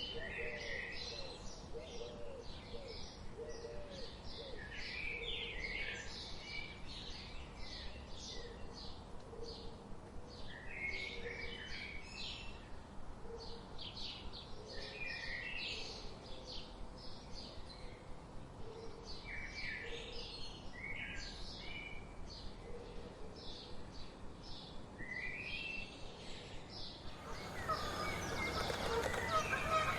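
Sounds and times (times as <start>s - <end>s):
songbirds chirping and twittering: 0.0s - 29.9s.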